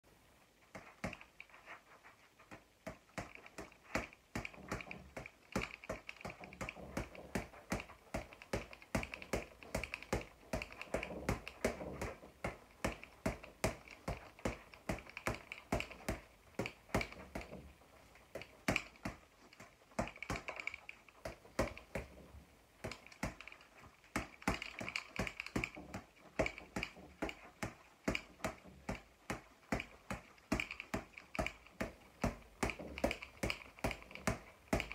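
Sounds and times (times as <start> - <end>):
boxing gloves smacking a ball: 0.7 - 1.4, 2.5 - 34.9.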